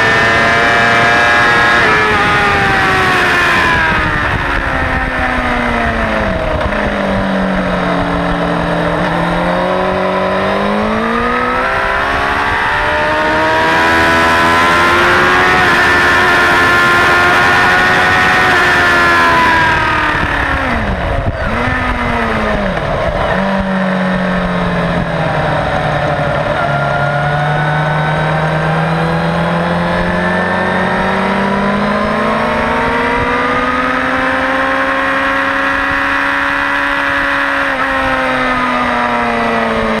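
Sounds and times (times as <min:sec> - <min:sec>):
wind rush: 0:00.0 - 0:38.5
motorcycle engine downshifting: 0:00.0 - 0:40.0.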